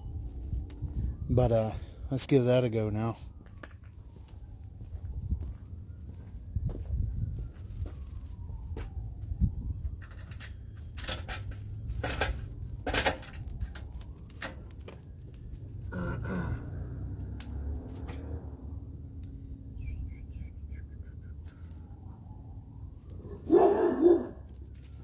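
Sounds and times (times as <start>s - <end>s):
steady low rumble: 0.0s - 2.2s, 3.9s - 23.4s.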